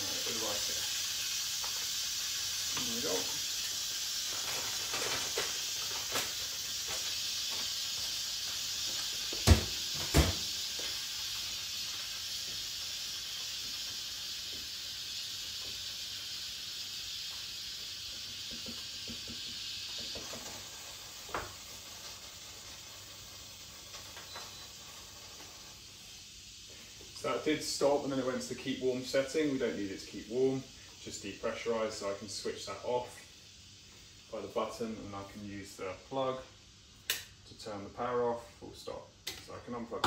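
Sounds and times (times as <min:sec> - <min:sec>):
steam hissing from valve: 0:00.0 - 0:40.0.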